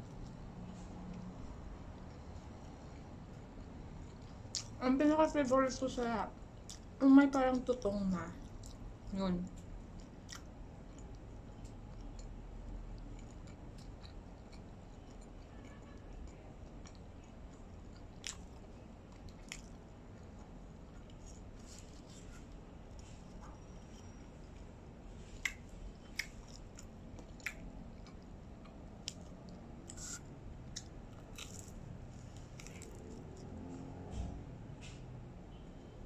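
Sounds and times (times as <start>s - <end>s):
chewing pizza crust: 0.0s - 4.8s, 5.7s - 35.0s
low room hum: 0.0s - 36.0s.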